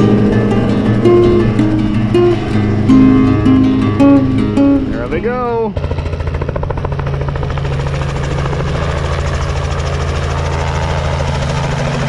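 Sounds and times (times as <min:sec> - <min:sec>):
helicopter rotor beating: 0:00.0 - 0:12.0
low engine hum: 0:00.0 - 0:12.0.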